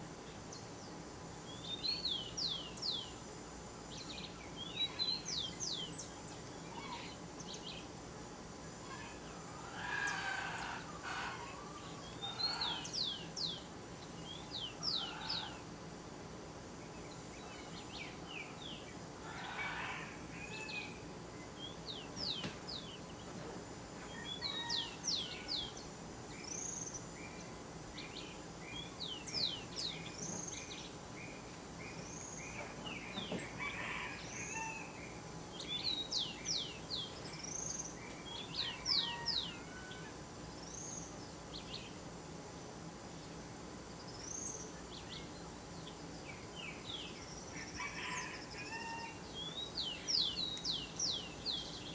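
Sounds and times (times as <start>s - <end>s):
background hiss: 0.0s - 51.9s
wild birds singing: 0.0s - 51.9s.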